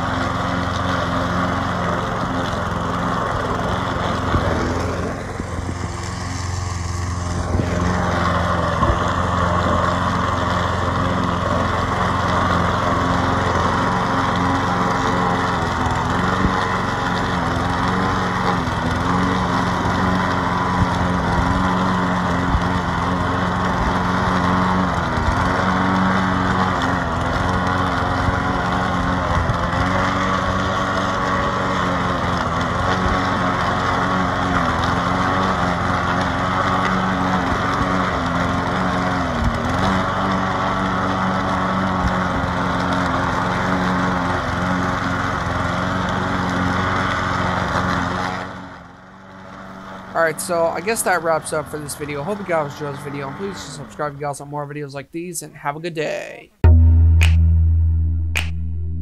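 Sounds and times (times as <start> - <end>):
lawn mower engine running: 0.0 - 54.5.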